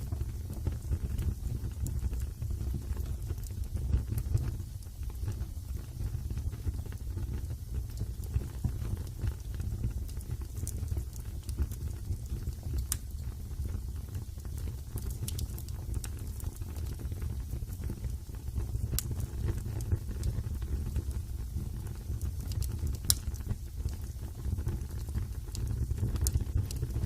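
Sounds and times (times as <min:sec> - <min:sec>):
wood fire burning in fireplace: 0:00.0 - 0:27.0.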